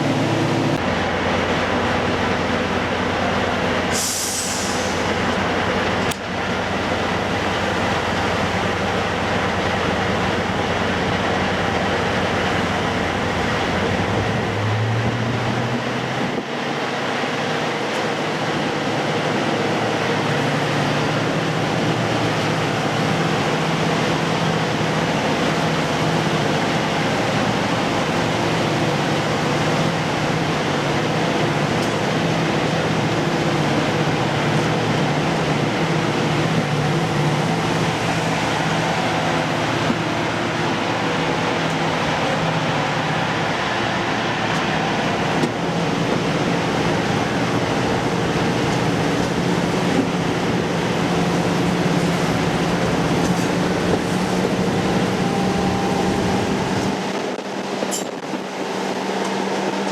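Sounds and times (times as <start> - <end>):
diesel locomotive engine running: 0.0 - 59.9.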